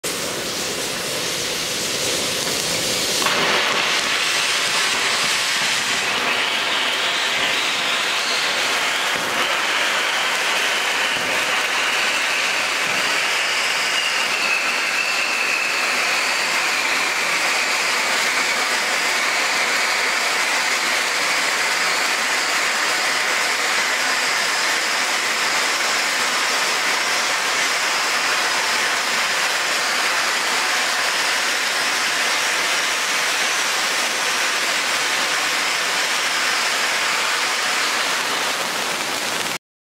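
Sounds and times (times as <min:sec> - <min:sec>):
firework sparks hissing: 0:00.0 - 0:39.6.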